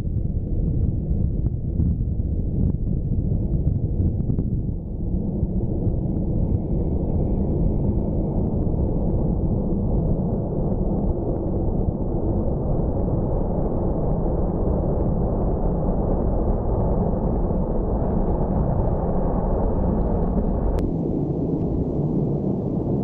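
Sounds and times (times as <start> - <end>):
jet engines deep rumble: 0.0 - 23.0.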